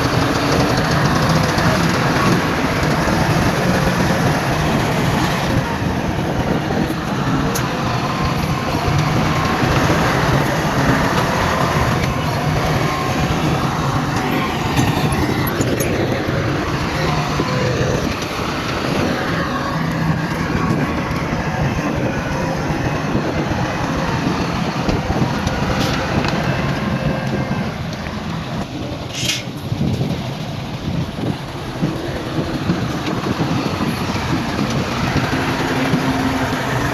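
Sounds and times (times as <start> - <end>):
heavy diesel machinery drone: 0.0 - 36.9.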